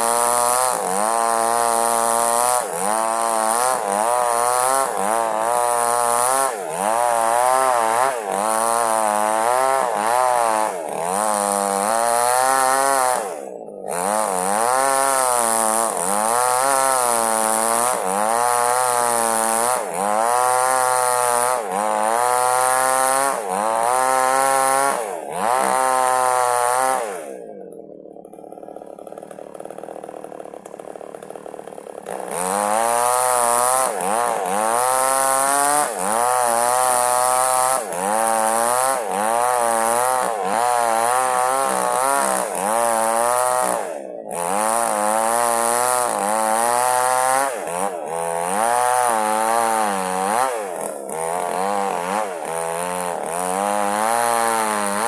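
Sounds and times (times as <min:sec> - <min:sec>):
chainsaw cutting wood: 0:00.0 - 0:55.0
chainsaw idling: 0:00.0 - 0:55.0.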